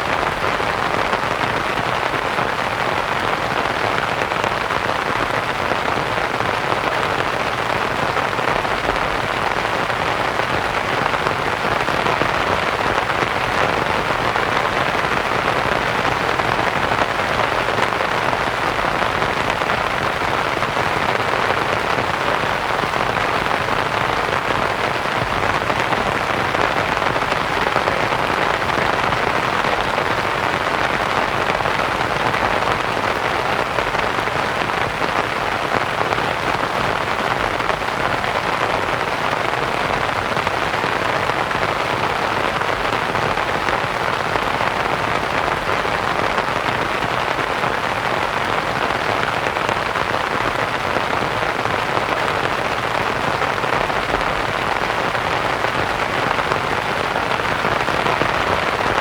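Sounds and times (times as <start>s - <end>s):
rain on tent canvas: 0.0s - 59.0s.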